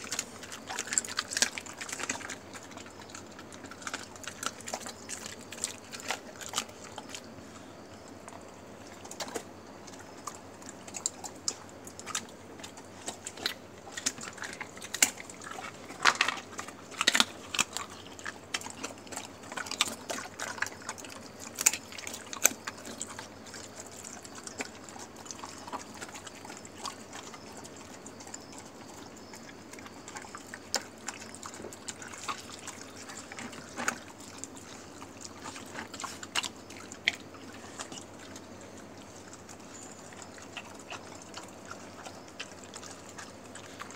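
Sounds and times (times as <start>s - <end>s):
dogs lapping from a bowl: 0.0s - 43.9s.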